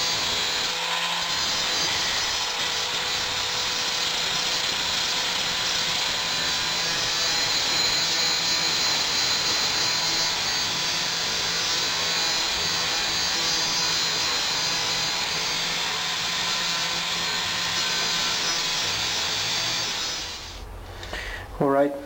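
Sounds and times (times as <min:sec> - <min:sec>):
angle grinder grinding metal: 0:00.0 - 0:20.6.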